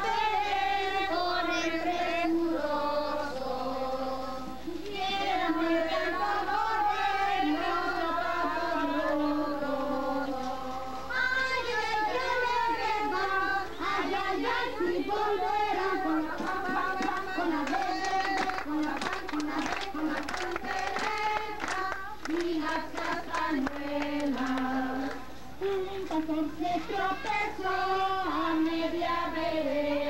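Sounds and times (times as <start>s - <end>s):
crowd singing together: 0.0s - 30.0s.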